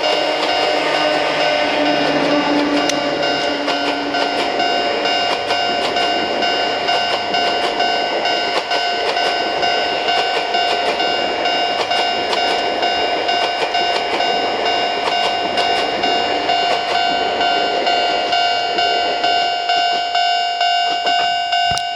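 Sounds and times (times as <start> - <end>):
train wheels clicking over rail joints: 0.0 - 20.0
high ringing alarm tone: 0.0 - 21.9.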